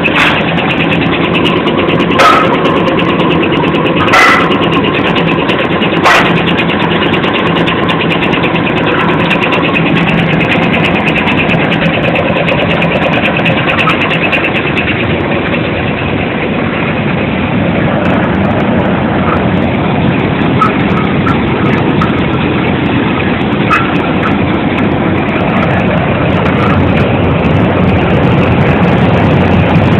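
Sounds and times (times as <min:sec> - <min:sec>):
machinery droning and rattling: 0:00.0 - 0:29.9.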